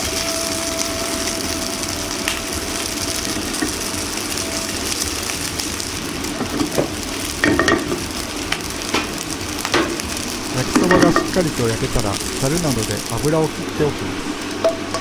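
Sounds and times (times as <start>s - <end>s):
noodles sizzling in frying pan: 0.0s - 15.0s.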